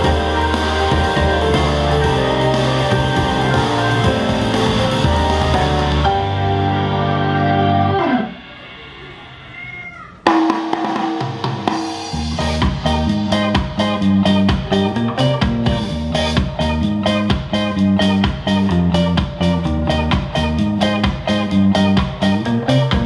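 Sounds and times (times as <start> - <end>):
steady drum beat: 0.0 - 6.2, 10.2 - 23.0
recorded music through speakers: 0.0 - 23.0.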